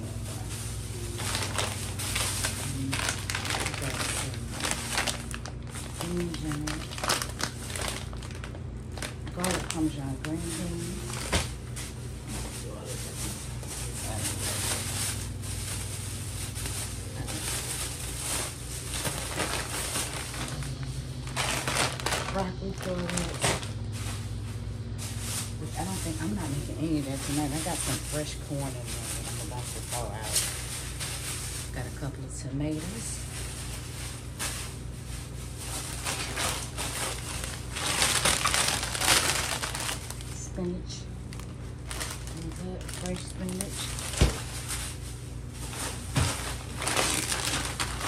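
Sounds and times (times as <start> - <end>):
plastic packaging crinkling: 0.0 - 31.9, 32.7 - 48.0
steady low hum: 0.0 - 48.0.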